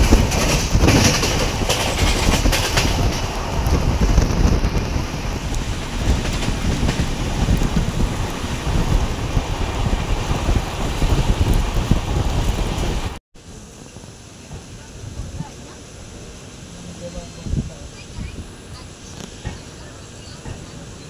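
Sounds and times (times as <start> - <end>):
train coaches rumbling: 0.0 - 21.0
wind on microphone: 0.0 - 21.0.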